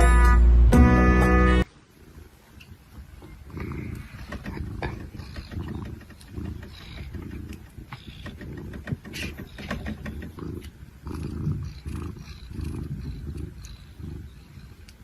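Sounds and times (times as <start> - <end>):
animal rumbling low: 2.0 - 15.0.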